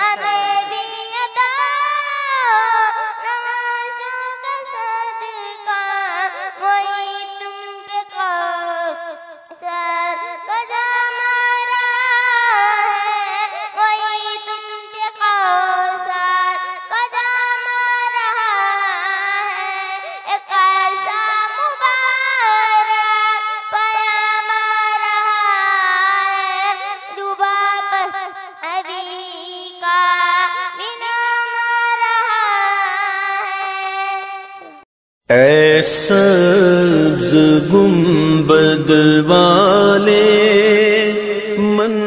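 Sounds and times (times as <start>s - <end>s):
girl singing into a microphone: 0.0s - 35.4s.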